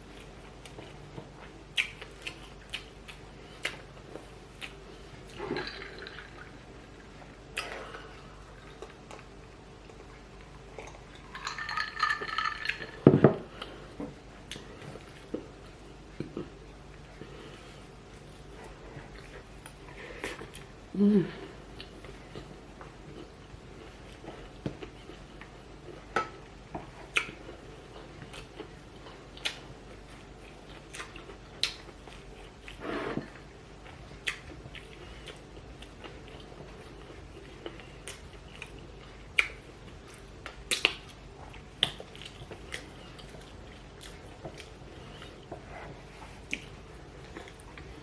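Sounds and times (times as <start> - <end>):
person chewing: 0.0 - 48.0.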